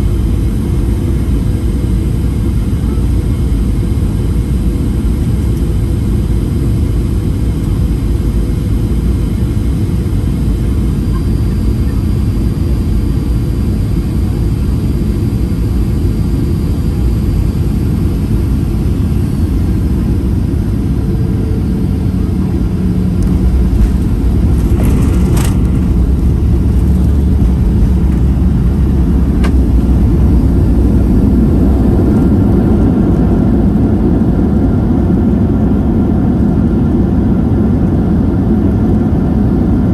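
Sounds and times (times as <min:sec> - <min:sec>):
airflow and jet engine noise: 0:00.0 - 0:39.9.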